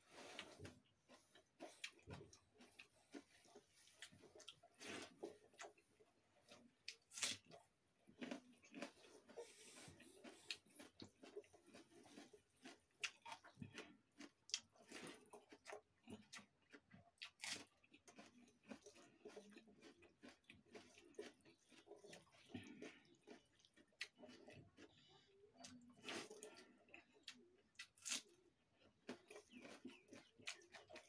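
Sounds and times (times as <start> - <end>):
chewing and mouth smacks: 0.2 - 31.0.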